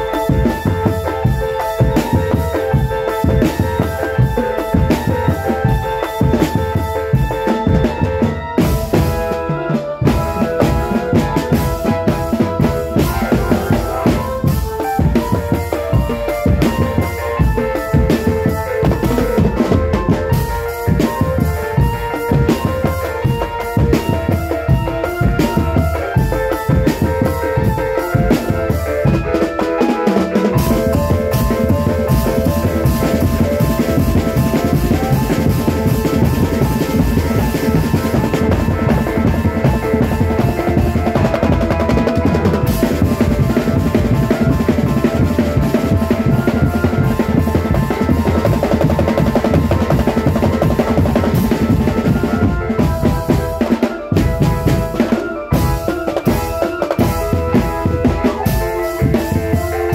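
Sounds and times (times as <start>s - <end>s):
bass and snare drums beating: 0.0s - 59.9s
held melody line: 0.0s - 59.9s
marching drum band: 0.0s - 59.9s.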